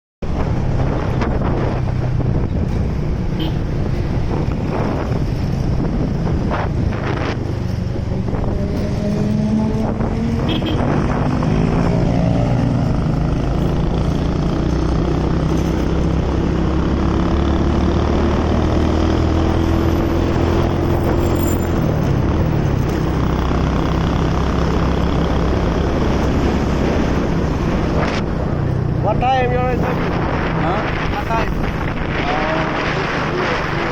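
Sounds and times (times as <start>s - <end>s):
wind rushing over microphone: 0.2s - 33.9s.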